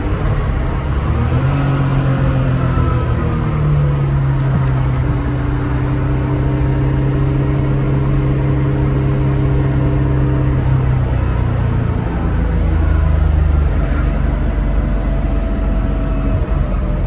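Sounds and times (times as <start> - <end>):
car engine heard from inside cabin: 0.0 - 17.0.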